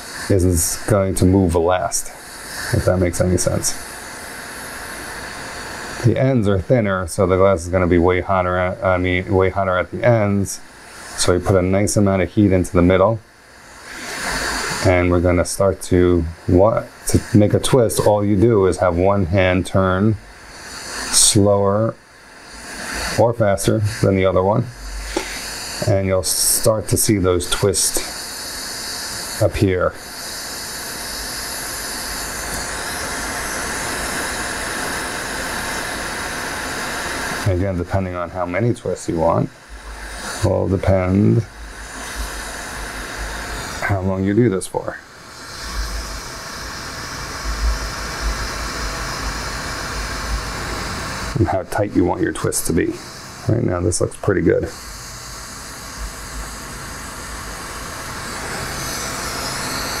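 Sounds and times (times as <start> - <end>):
torch burning with steady hiss: 0.0 - 60.0.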